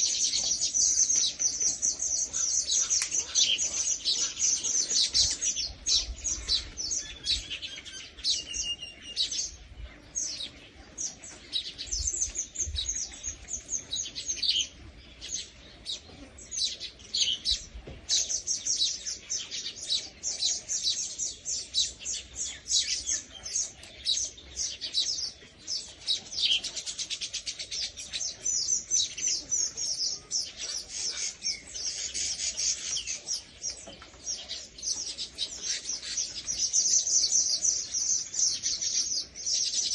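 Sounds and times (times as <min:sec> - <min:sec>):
small birds chirping rapidly: 0:00.0 - 0:39.9.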